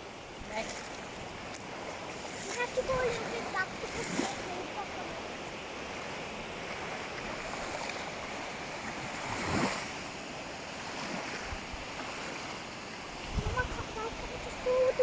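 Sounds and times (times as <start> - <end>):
ocean surf washing on beach: 0.0 - 15.0
wave breaking: 2.1 - 15.0.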